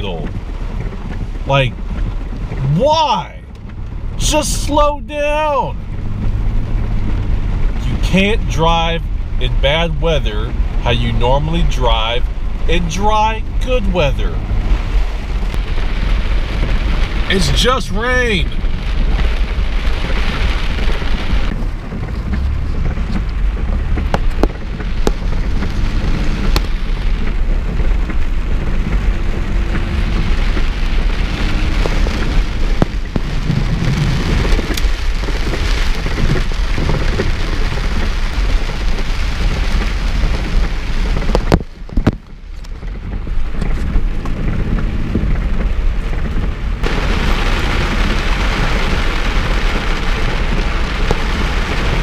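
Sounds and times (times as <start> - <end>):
heavy rain on a car: 0.0 - 52.0
low rumble: 5.0 - 52.0.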